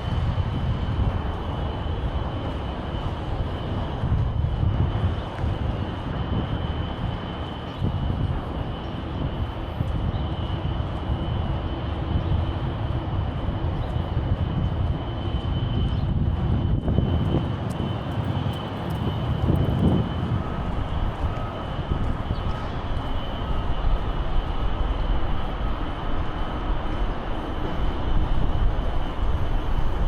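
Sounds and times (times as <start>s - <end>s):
faint high whine: 0.0s - 30.0s
street noise rumble: 0.0s - 30.0s.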